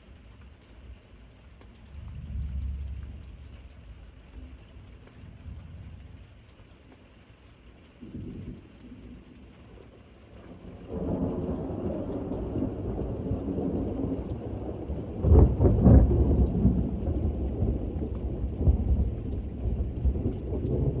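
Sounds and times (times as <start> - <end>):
steady rain: 0.0 - 21.0
thunder rumbling: 2.0 - 6.3, 8.0 - 21.0.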